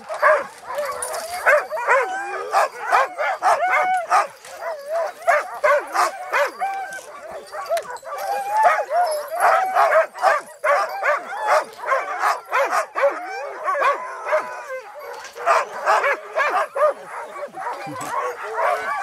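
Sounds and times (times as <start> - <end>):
huskies barking and yipping: 0.0 - 19.0.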